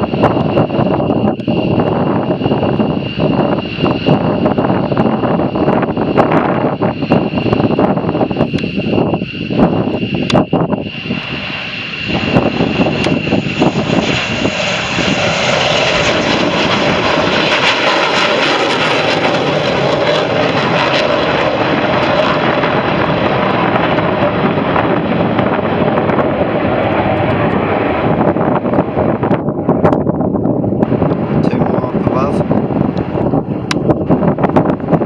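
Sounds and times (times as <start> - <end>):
high jet whine: 0.0 - 35.0
jet engines roaring past: 0.0 - 35.0.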